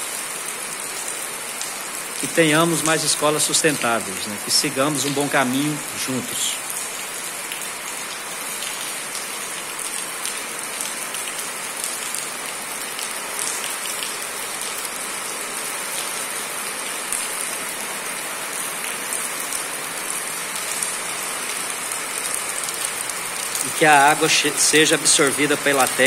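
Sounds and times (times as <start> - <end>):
downspout runoff splashing: 0.0 - 26.0
rain on metal roof and concrete: 0.0 - 26.0.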